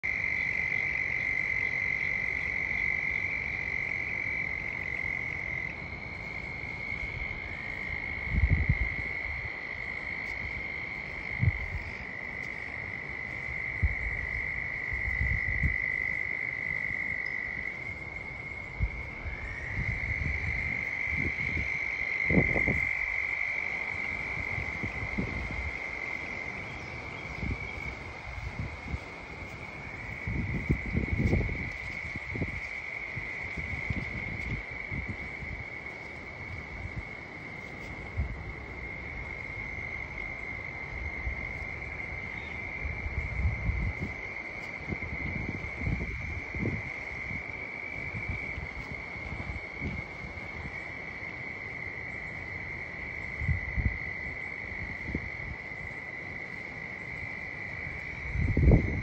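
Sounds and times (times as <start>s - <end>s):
frogs trilling: 0.0s - 59.0s.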